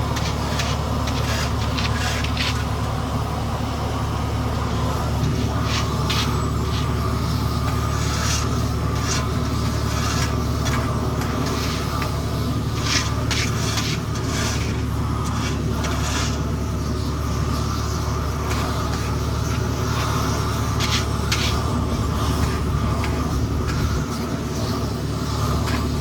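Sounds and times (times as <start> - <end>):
hand tools scraping asphalt: 0.0 - 26.0
paving machine engine running: 0.0 - 26.0.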